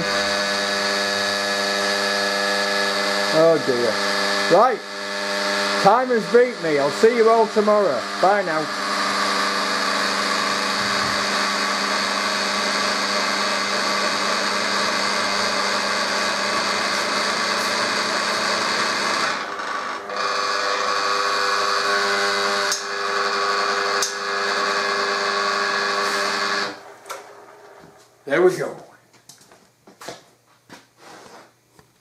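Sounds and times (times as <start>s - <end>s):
motor plate vibrating and buzzing: 0.0s - 28.0s
electric motor hum and buzz: 0.0s - 28.2s.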